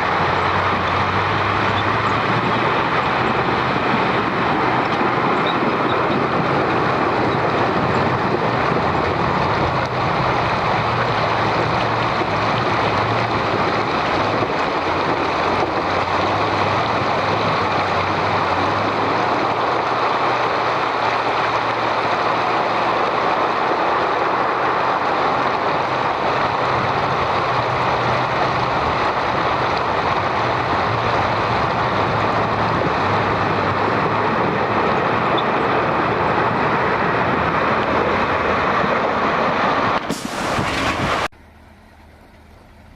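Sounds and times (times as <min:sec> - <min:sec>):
constant rushing noise: 0:00.0 - 0:41.3
truck engine droning: 0:00.0 - 0:42.9.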